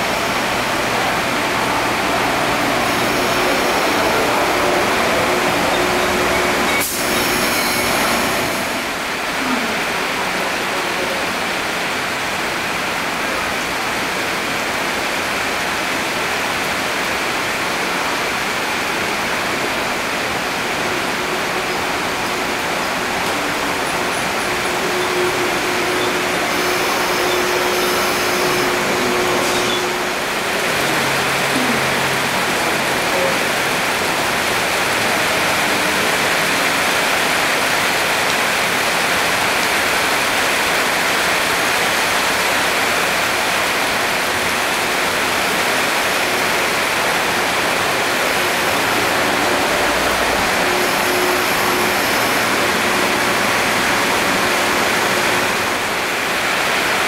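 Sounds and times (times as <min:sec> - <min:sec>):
faint electric train hum: 0:00.0 - 0:57.0
heavy rain pouring: 0:00.0 - 0:57.0.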